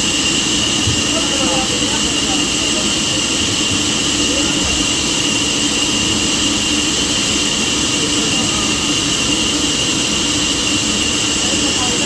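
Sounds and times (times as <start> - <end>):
sawmill saw whining: 0.0 - 12.0.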